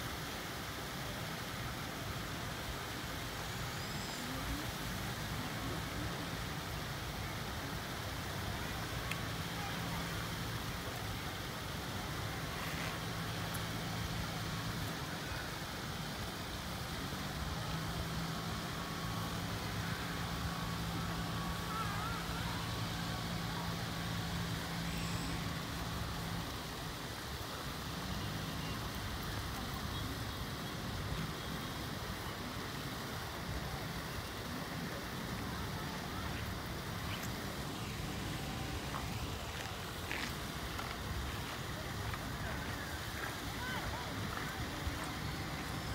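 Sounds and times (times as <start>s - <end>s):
outdoor background rush: 0.0s - 45.9s.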